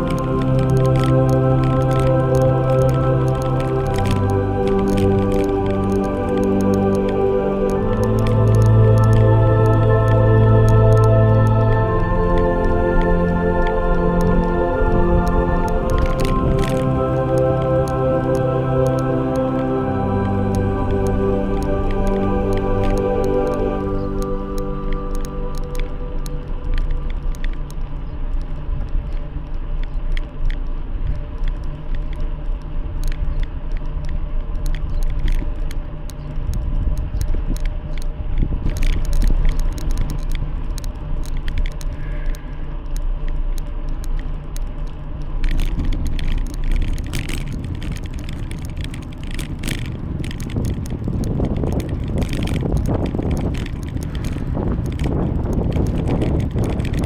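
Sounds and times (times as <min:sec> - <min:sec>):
bicycle tyres rumbling: 0:00.0 - 0:19.6, 0:20.4 - 0:57.0.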